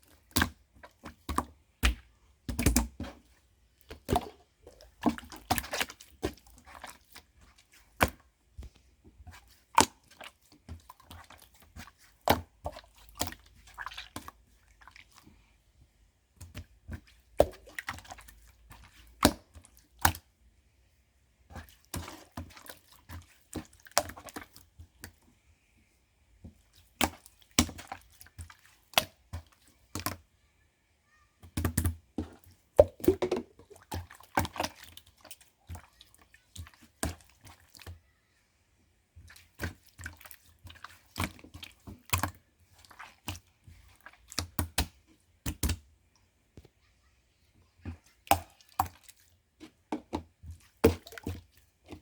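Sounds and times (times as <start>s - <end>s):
slime squishing: 0.0s - 15.6s, 16.4s - 20.3s, 21.4s - 25.7s, 26.3s - 30.3s, 31.5s - 38.2s, 39.2s - 45.9s, 47.8s - 52.0s.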